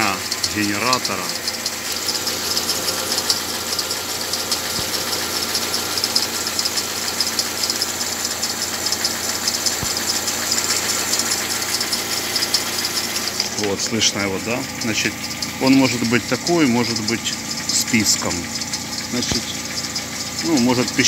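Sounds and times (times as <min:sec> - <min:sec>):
car engine idling: 0:00.0 - 0:21.0
drive belt whistling: 0:00.0 - 0:21.0.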